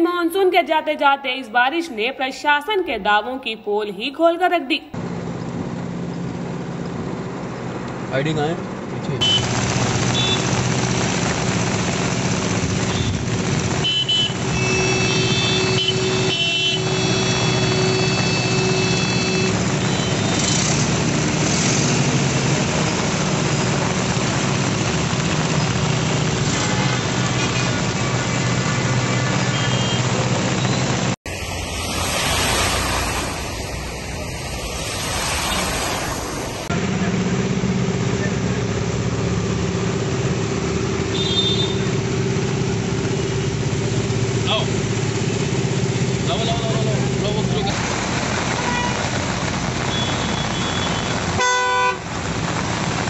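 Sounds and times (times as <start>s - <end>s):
vehicle engines running: 4.9s - 53.0s
rushing floodwater: 9.2s - 53.0s.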